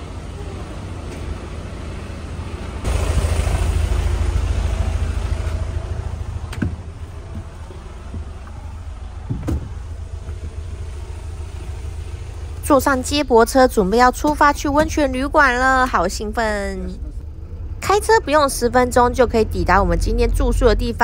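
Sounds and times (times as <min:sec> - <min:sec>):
minibus engine rumbling: 0:00.0 - 0:21.0.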